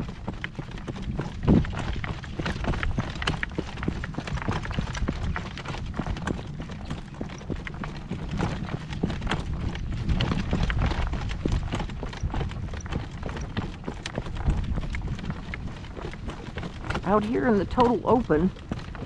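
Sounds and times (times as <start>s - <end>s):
horse hooves clip-clopping: 0.0s - 19.0s.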